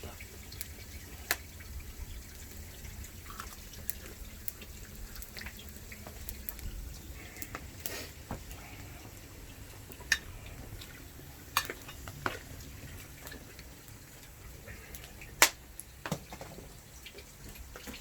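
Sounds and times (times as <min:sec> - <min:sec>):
water dripping and trickling: 0:00.0 - 0:18.0.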